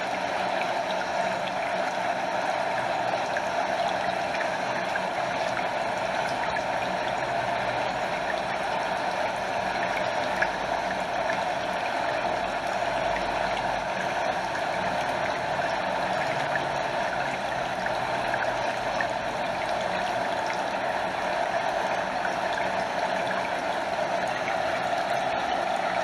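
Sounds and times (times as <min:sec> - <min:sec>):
stream and small waterfall flowing: 0:00.0 - 0:26.0.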